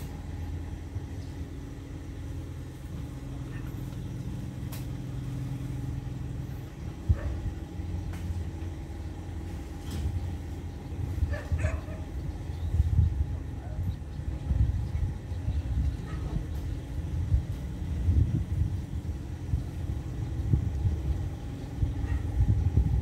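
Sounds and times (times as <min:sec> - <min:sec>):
diesel train engine idling: 0:00.0 - 0:23.0.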